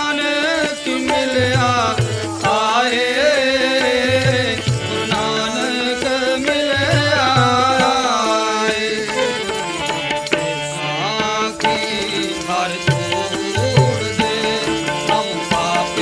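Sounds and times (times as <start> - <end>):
harmonium chords: 0.0 - 16.0
man singing: 0.0 - 16.0
tabla drumming: 0.0 - 16.0.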